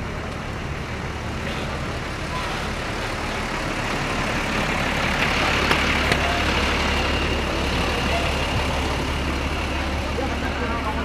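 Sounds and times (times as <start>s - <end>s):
coach diesel engine running: 0.0s - 11.0s.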